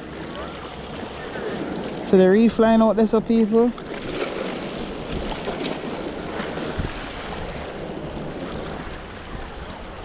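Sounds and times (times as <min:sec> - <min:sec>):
sea waves washing at shore: 0:00.0 - 0:10.0
wind rumbling on microphone: 0:00.0 - 0:10.0.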